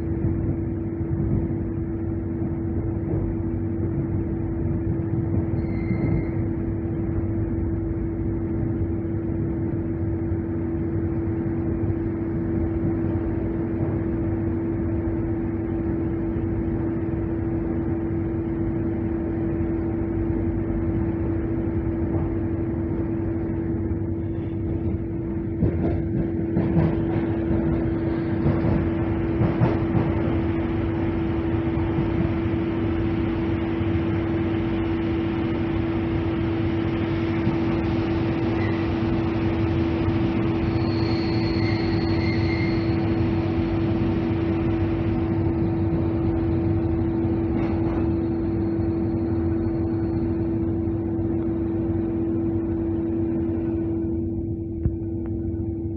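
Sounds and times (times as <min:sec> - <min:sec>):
train cabin hum with constant tone: 0:00.0 - 0:55.9
train rolling rumble: 0:00.0 - 0:55.9.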